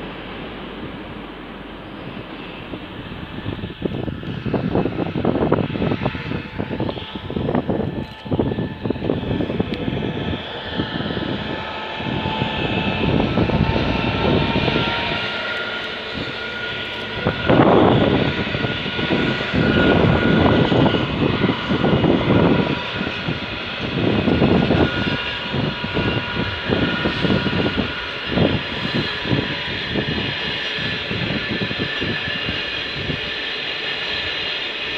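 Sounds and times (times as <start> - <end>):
diesel locomotive engine droning: 0.0 - 34.9
train wheels rumbling over rails: 0.0 - 34.9.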